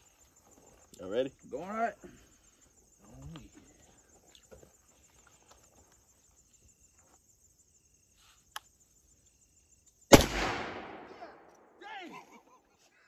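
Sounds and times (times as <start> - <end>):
faint insect chirring: 0.0 - 13.0.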